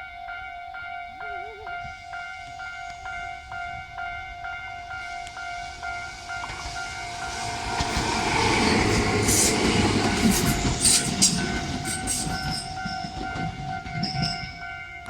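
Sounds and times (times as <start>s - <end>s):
railway crossing alarm ringing: 0.0s - 15.0s
train rumble: 0.0s - 15.0s.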